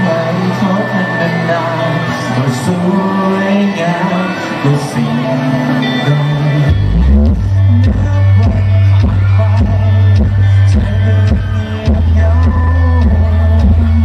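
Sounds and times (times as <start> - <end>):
bass line: 0.0 - 14.0
man singing into microphone: 0.0 - 14.0.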